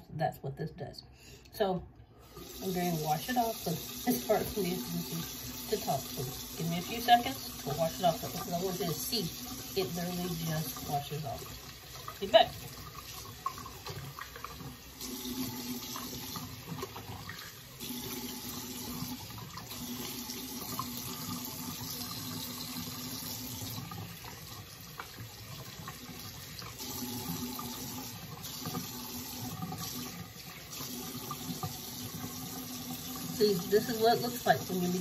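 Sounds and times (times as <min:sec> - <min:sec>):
tap water running into sink: 0:02.2 - 0:35.0.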